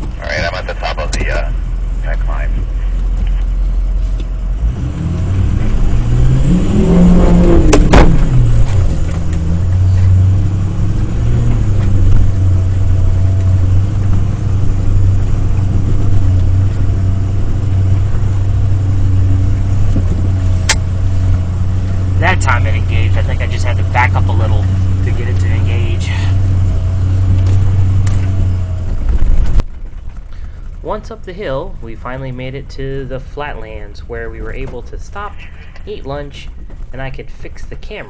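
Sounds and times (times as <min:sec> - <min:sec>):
pickup engine revving: 0:00.0 - 0:38.0.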